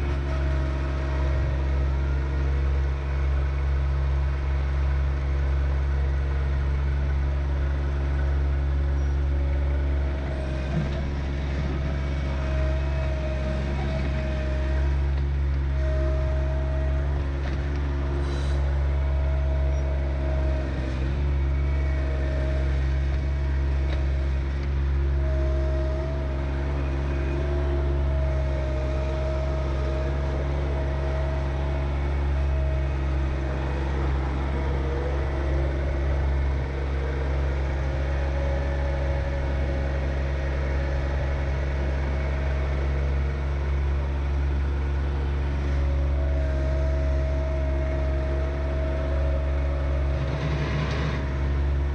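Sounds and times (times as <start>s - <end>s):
diesel tractor engine running: 0.0s - 51.9s
engine whine: 0.0s - 51.9s.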